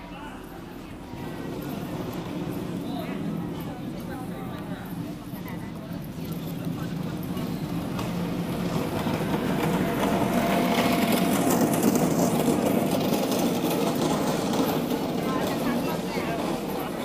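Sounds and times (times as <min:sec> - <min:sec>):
motor scooter towing rattling cart: 0:00.0 - 0:17.0.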